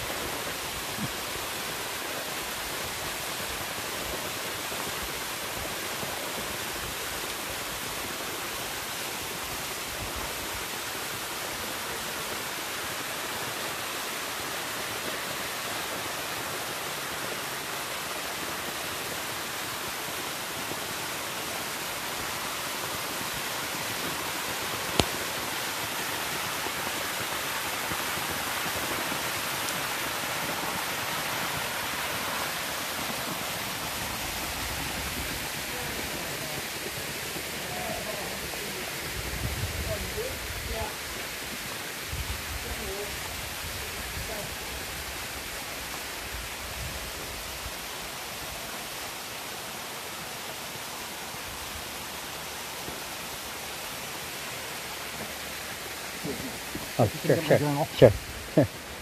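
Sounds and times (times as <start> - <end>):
waterfall splashing into pool: 0.0 - 59.0.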